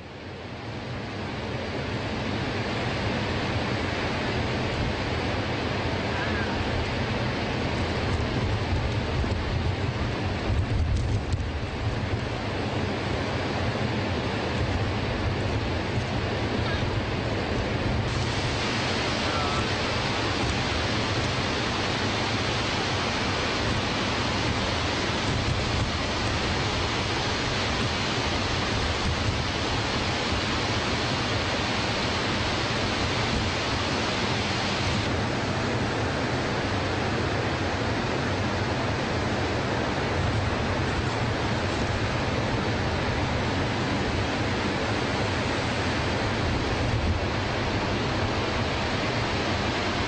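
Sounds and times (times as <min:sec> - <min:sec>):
waterfall roaring: 0:00.0 - 0:50.0
churning water: 0:01.2 - 0:50.0.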